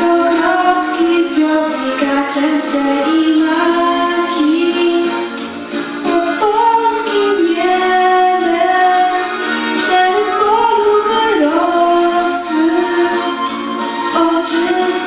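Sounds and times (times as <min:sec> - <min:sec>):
girl singing slow melody: 0:00.0 - 0:05.4, 0:06.0 - 0:15.0
quiet instrumental accompaniment: 0:00.0 - 0:15.0.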